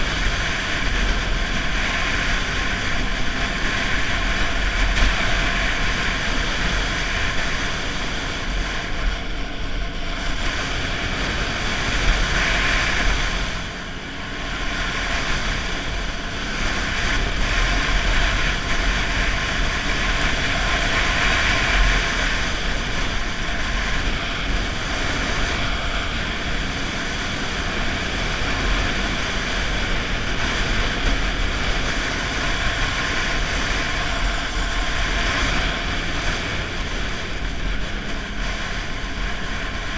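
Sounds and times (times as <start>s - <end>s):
snowmobile engine and track: 0.0s - 39.9s
wind noise on microphone: 0.0s - 39.9s.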